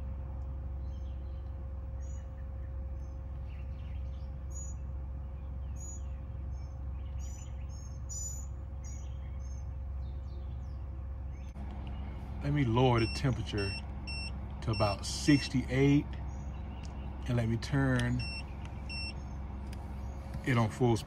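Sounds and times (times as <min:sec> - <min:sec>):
air conditioner humming: 0:00.0 - 0:21.0
birds chirping: 0:00.0 - 0:21.0.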